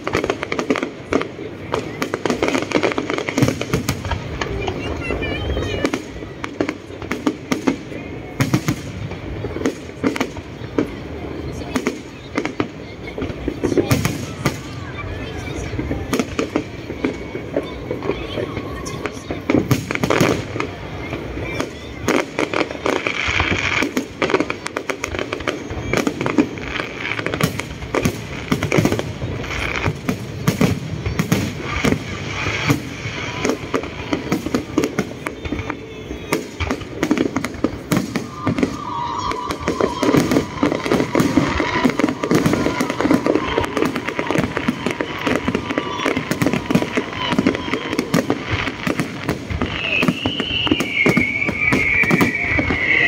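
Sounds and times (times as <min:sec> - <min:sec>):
fireworks cracks and bangs: 0:00.0 - 0:53.0.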